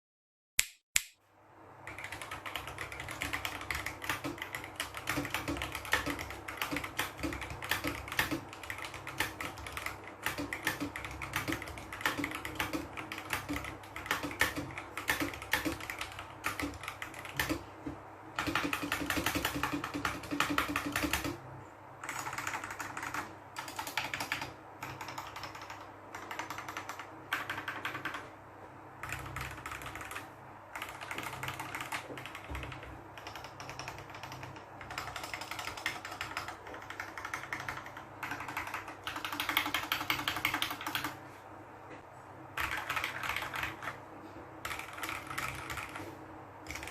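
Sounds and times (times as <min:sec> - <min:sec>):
typing on mechanical keyboard: 0:01.8 - 0:17.7, 0:18.4 - 0:21.4, 0:22.0 - 0:28.3, 0:29.0 - 0:41.2, 0:42.6 - 0:44.0, 0:44.6 - 0:46.9.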